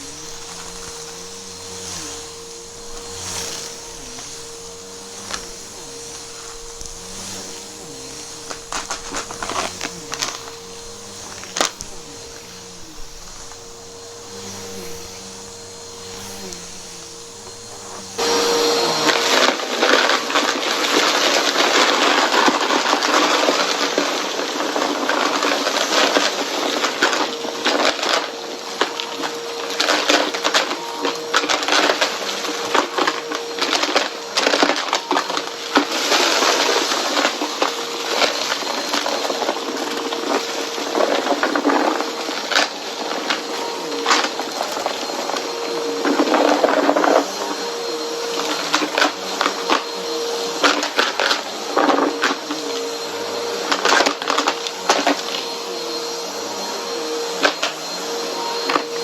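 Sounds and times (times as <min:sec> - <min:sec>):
vacuum cleaner motor hum: 0:00.0 - 0:59.0.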